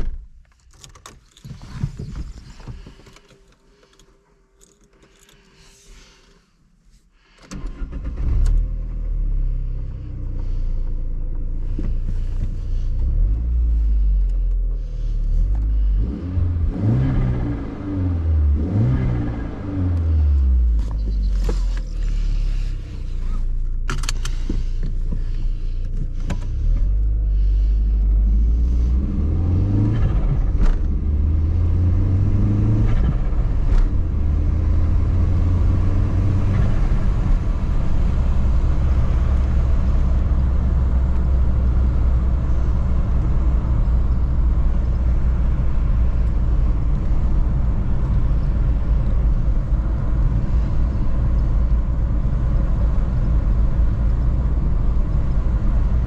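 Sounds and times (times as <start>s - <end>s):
car engine accelerating: 7.5s - 56.0s.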